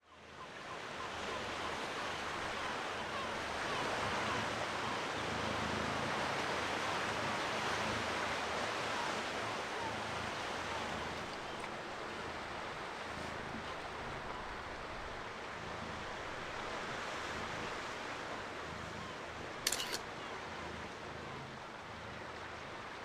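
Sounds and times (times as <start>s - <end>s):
sea surf washing ashore: 0.4s - 23.0s.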